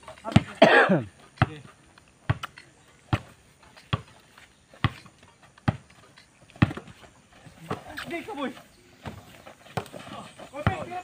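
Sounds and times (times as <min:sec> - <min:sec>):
basketball bouncing on dirt: 0:00.0 - 0:11.0.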